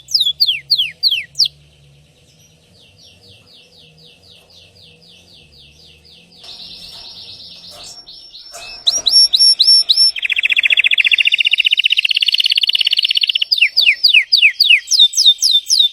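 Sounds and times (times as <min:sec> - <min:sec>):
canary singing trills: 0:00.0 - 0:15.9.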